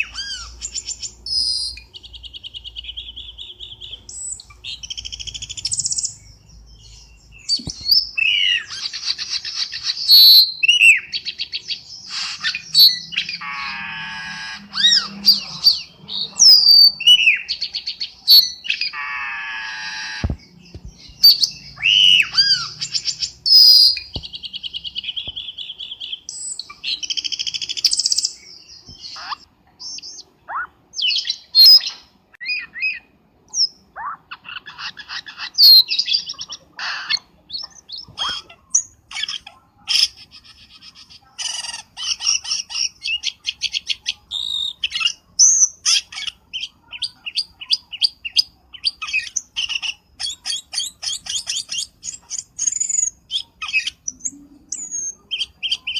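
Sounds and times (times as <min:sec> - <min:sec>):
bird chirping and trilling: 0:00.0 - 0:55.9.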